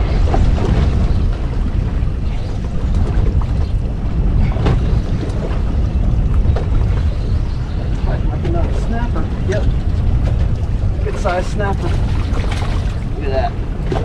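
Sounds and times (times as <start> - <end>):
water lapping at hull: 0.0 - 14.0
wind buffeting microphone: 0.0 - 14.0.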